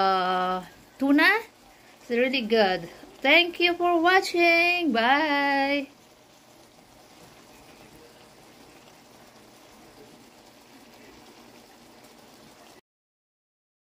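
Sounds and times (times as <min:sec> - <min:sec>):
sauce simmering and sizzling: 0:00.0 - 0:12.8.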